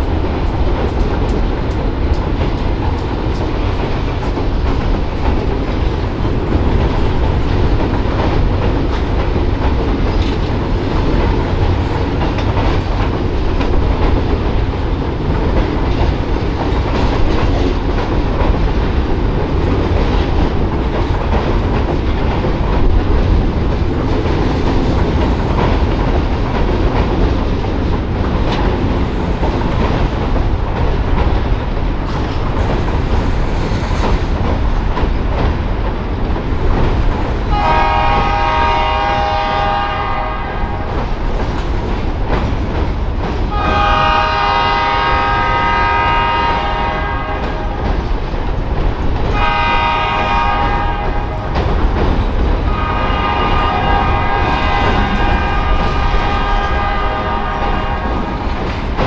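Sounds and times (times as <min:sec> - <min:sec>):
train wheels rumbling on bridge: 0:00.0 - 0:59.0.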